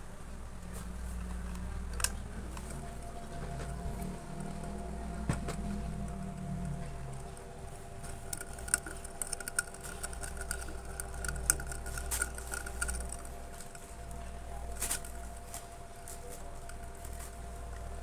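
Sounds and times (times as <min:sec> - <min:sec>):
ceiling fan motor hum: 0:00.0 - 0:18.0
light clicks and ticks: 0:00.6 - 0:18.0.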